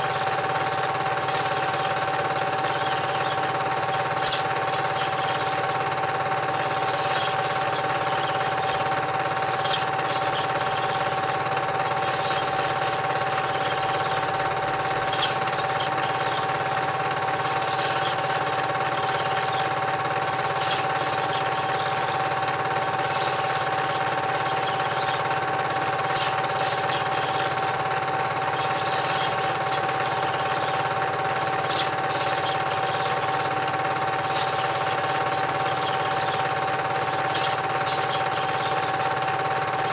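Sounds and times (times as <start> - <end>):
film projector clatter: 0.0 - 39.9
projector whirring hum: 0.0 - 39.9.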